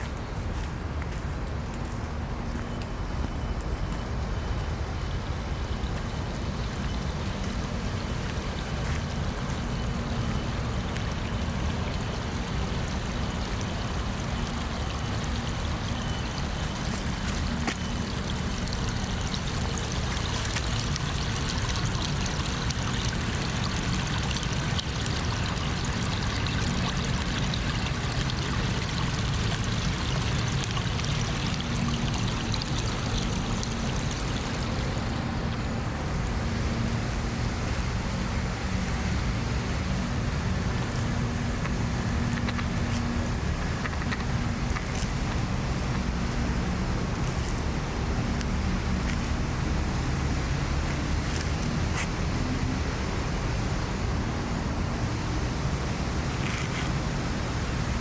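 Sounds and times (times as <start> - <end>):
running water rushing: 5.5 - 58.0.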